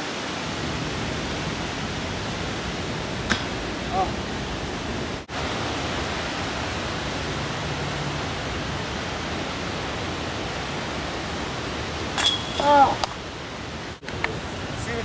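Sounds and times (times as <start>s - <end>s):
steady noise hiss: 0.0s - 15.0s.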